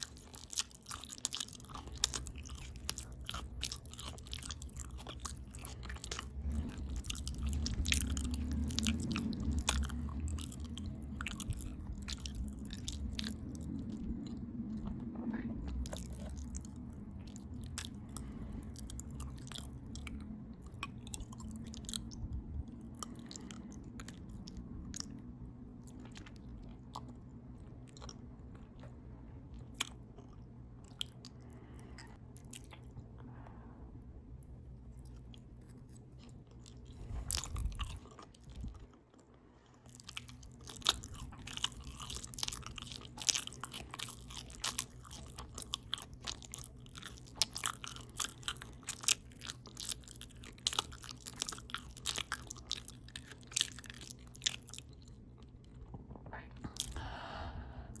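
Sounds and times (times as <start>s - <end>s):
open-mouth chewing: 0.0s - 33.6s, 34.3s - 58.0s.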